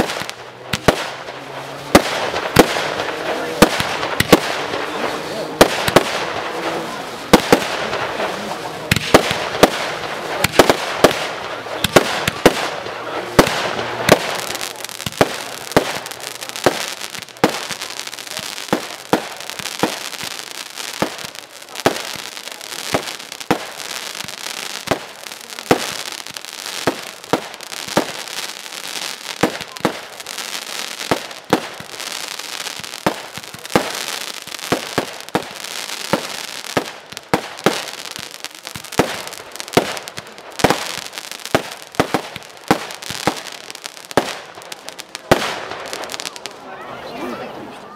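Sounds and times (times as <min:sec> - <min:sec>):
firework cake bangs: 0:00.0 - 0:06.6, 0:07.3 - 0:46.4
crackling of bursting stars: 0:00.0 - 0:46.7.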